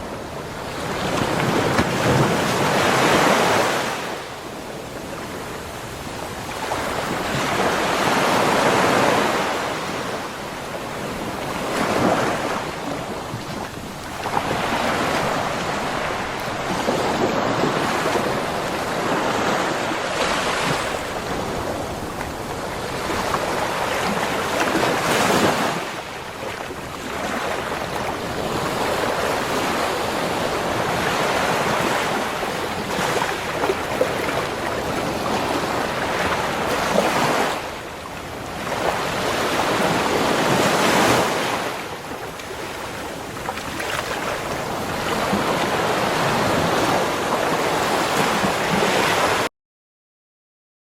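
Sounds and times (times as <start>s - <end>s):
ocean waves breaking: 0.0s - 49.5s
wind on microphone: 0.0s - 49.5s.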